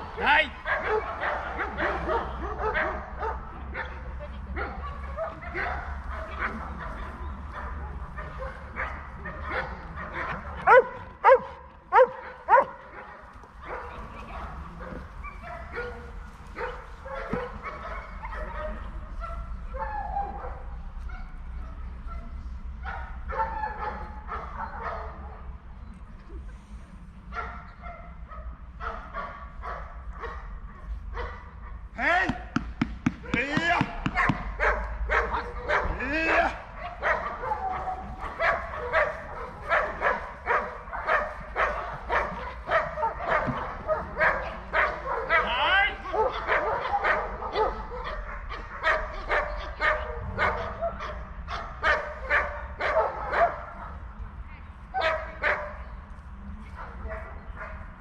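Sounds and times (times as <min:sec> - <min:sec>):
dogs barking: 0:00.0 - 0:25.5, 0:27.3 - 0:31.9, 0:33.1 - 0:54.1, 0:55.0 - 0:55.8, 0:56.8 - 0:58.0.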